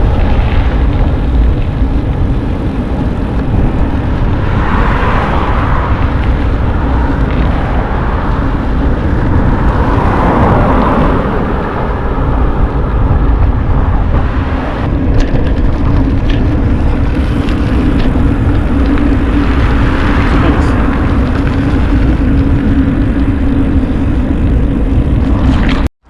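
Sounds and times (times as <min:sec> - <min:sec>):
bicycle tyre and road noise: 0:00.0 - 0:26.0
wind buffeting microphone: 0:00.0 - 0:26.0.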